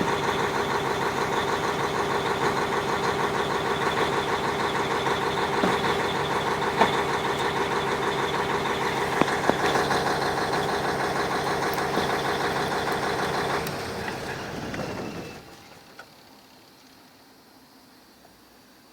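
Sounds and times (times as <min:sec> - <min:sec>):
diesel engine idling with knock: 0:00.0 - 0:16.2.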